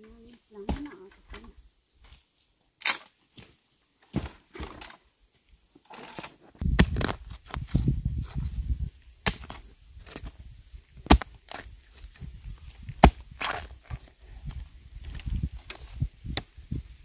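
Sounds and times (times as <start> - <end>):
rough low crunching: 0.0 - 17.0.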